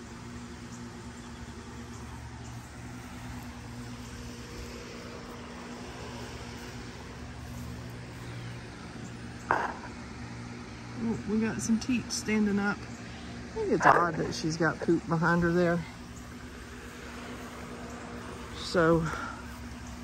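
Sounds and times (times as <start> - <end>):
electric fan motor hum: 0.0 - 20.0.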